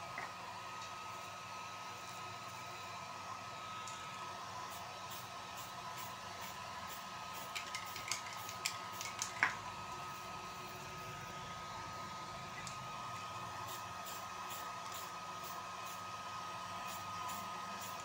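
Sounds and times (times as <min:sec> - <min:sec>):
hair dryer whining: 0:00.0 - 0:18.0.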